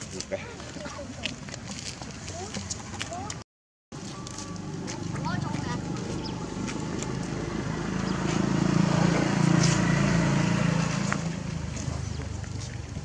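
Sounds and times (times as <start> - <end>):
vehicle engine humming: 2.3 - 13.0.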